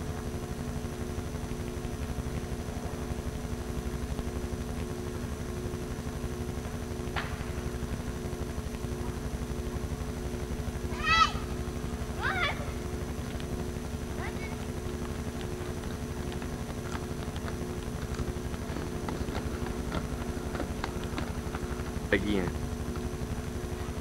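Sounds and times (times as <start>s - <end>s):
camcorder motor hum: 0.0s - 24.0s.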